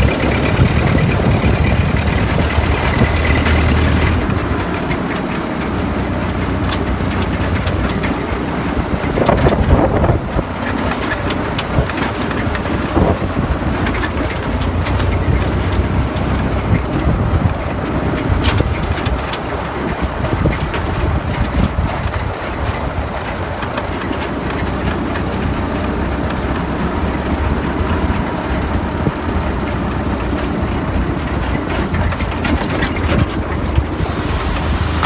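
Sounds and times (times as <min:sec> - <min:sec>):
tractor engine running: 0:00.0 - 0:35.0
insects chirping: 0:00.1 - 0:34.1.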